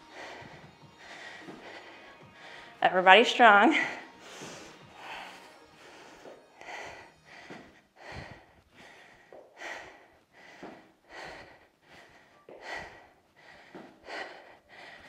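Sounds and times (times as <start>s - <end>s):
woman breathing hard: 0.0s - 2.8s, 3.7s - 15.0s.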